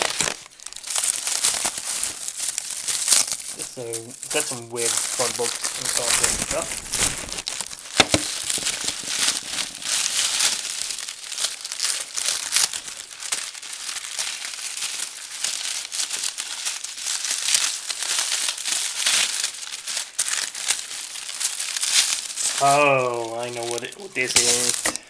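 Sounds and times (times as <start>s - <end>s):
paper packing crinkling: 0.0s - 25.0s
paper tearing: 0.0s - 25.0s.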